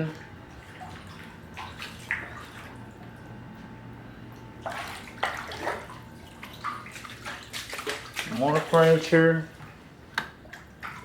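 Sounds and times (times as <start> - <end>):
steady low hum: 0.0 - 11.0
floodwater sloshing and splashing: 0.1 - 3.4, 4.3 - 11.0.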